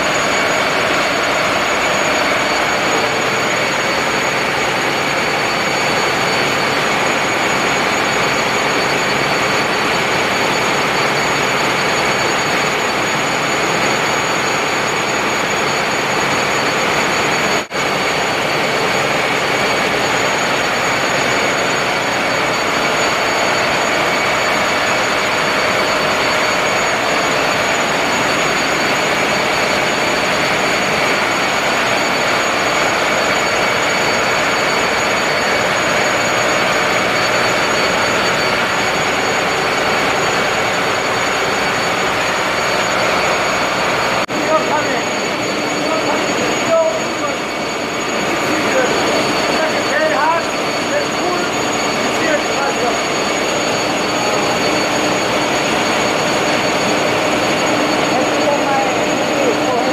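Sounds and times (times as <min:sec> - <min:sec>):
engine-room machinery drone: 0:00.0 - 0:59.9
high machinery whine: 0:00.0 - 0:59.9.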